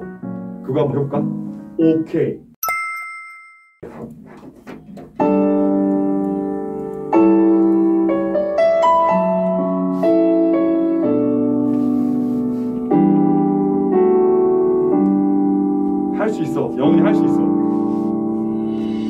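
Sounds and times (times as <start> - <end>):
slow piano chords: 0.0 - 1.8, 5.1 - 19.0.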